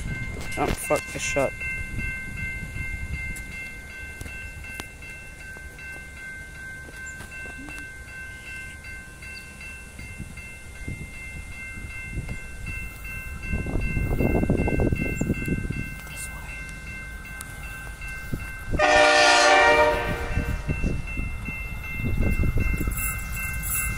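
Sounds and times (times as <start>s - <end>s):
level crossing bells ringing: 0.0s - 23.9s
train rumble: 0.0s - 23.9s.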